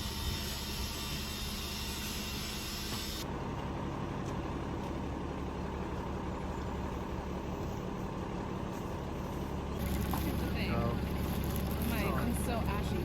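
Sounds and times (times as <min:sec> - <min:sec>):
faint constant hum: 0:00.0 - 0:13.0
vehicle engine rumble: 0:00.0 - 0:13.0.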